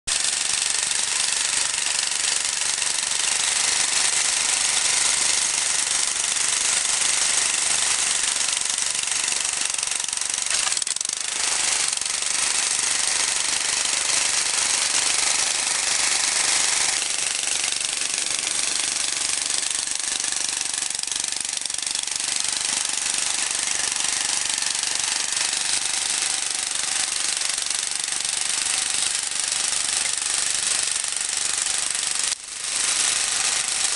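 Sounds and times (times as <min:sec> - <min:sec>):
small petrol engine running: 0:00.1 - 0:33.9
tines churning soil: 0:00.1 - 0:33.9.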